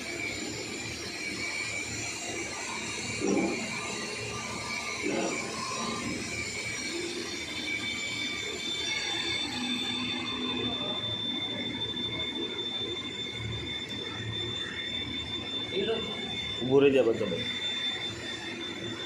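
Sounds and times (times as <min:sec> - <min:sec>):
high-pitched machine whine: 0:00.0 - 0:19.0.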